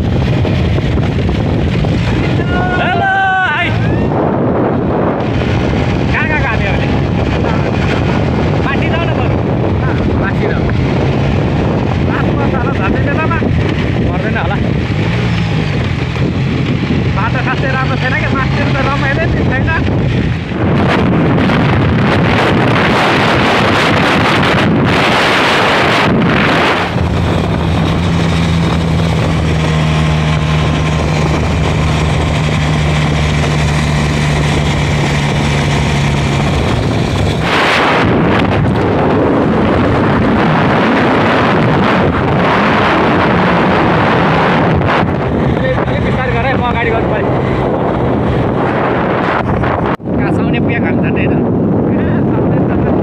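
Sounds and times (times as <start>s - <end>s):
motorcycle engine hum: 0.0s - 53.0s
wind buffeting microphone: 0.0s - 53.0s.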